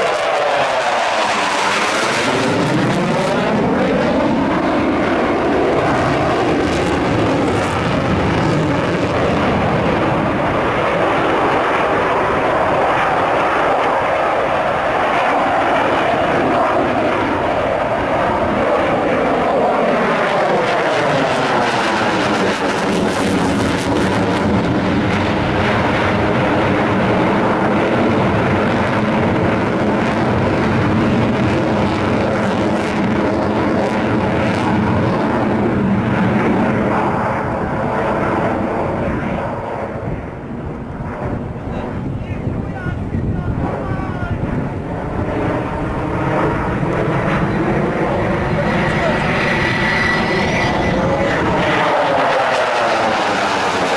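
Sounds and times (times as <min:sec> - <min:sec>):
fighter jet roar: 0:00.0 - 0:53.9.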